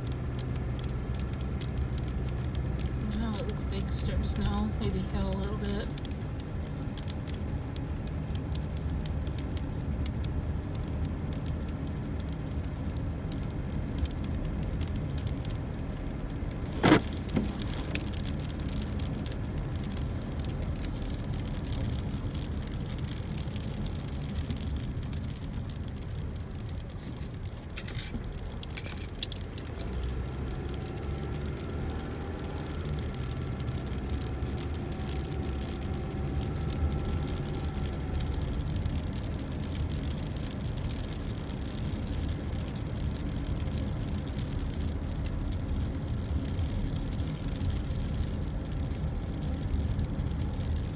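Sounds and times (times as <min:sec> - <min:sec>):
engine and tyres on wet road: 0:00.0 - 0:50.9.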